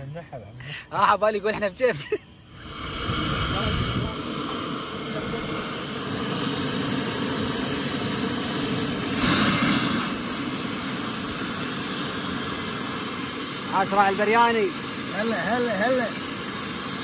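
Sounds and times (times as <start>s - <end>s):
stove burner hissing: 0.0s - 17.0s.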